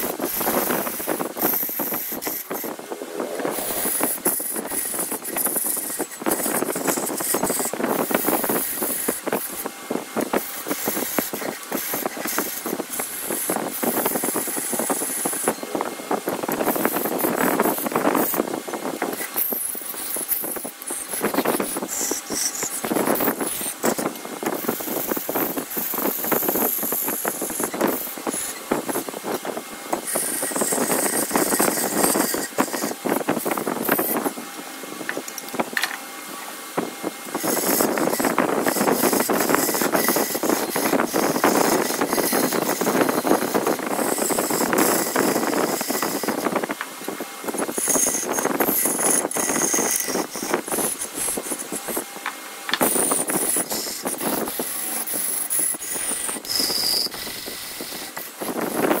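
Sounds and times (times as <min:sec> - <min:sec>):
lathe tool scraping wood: 0:00.0 - 0:59.0.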